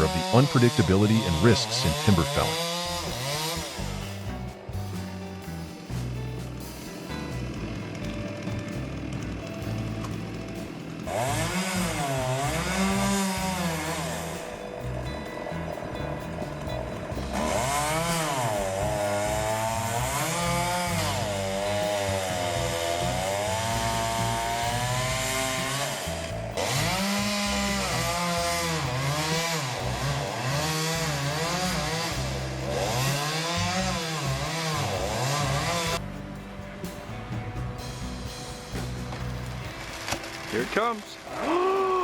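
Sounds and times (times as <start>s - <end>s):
chainsaw cutting wood: 0.0s - 36.1s, 38.0s - 42.0s.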